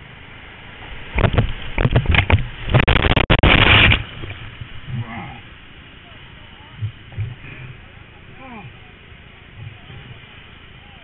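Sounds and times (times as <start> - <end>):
loud water splashes: 0.0 - 11.0
whitewater rushing: 0.0 - 11.0.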